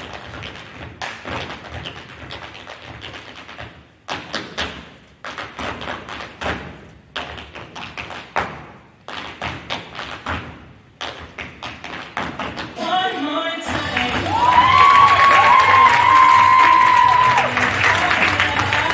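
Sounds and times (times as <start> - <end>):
hard-soled shoes tapping on stage: 0.0 - 12.8, 13.7 - 18.9.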